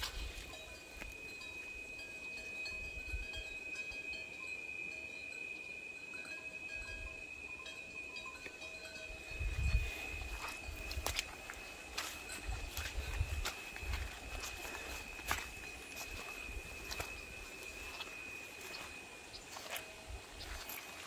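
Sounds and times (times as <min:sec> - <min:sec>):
faint outdoor background: 0:00.0 - 0:21.0
steady high-pitched whine: 0:00.0 - 0:21.0.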